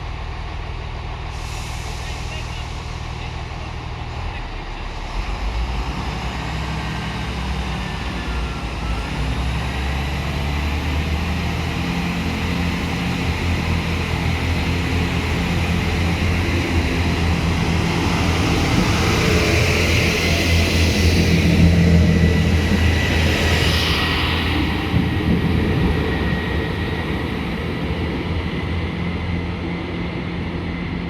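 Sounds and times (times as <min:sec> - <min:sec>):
diesel train engine droning: 0:00.0 - 0:31.0.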